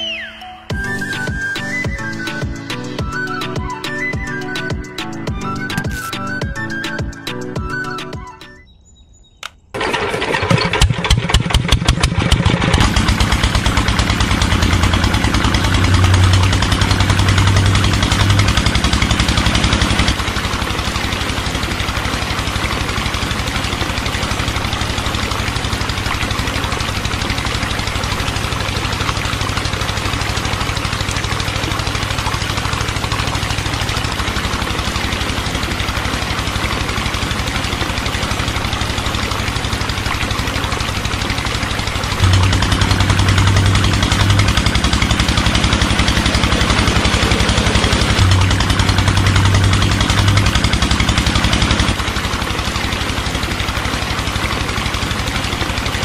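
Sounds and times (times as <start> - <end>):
small model engine knocking: 9.8 - 56.0.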